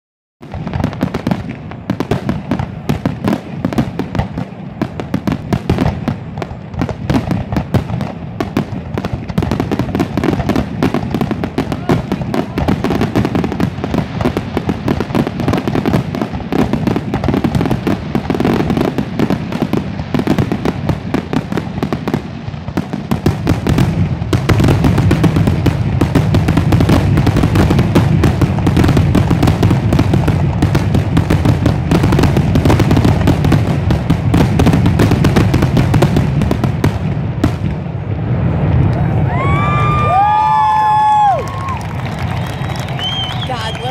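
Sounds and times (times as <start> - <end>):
fireworks bangs and crackling: 0.4 - 43.9.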